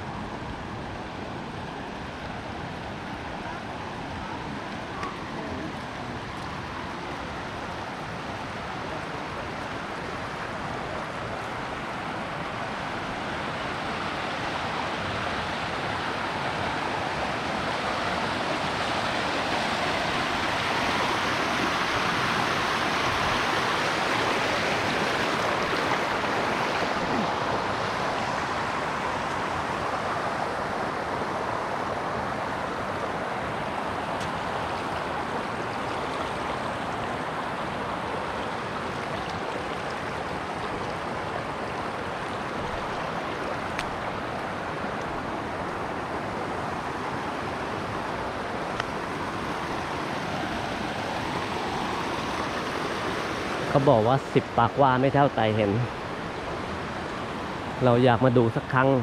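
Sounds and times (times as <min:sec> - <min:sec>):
waterfall rushing over rock: 0:00.1 - 0:59.0.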